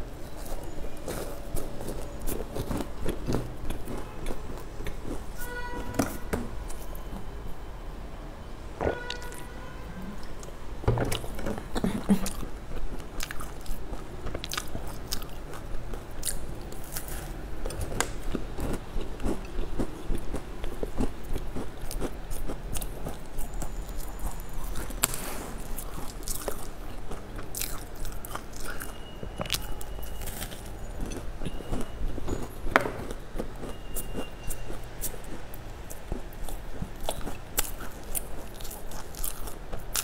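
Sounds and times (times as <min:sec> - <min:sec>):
biting and chewing crisp pastry: 0:00.0 - 0:07.2, 0:11.1 - 0:40.0.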